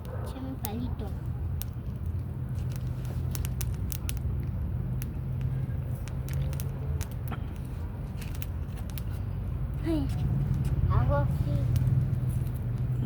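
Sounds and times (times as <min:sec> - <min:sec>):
campfire crackling and popping: 0:00.0 - 0:13.0
steady low rumble: 0:00.0 - 0:13.0.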